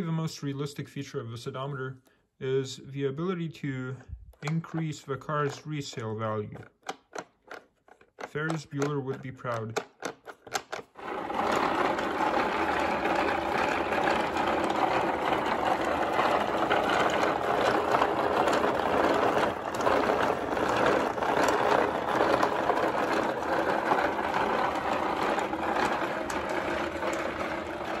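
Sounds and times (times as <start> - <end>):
model car gears clattering: 4.4 - 28.0.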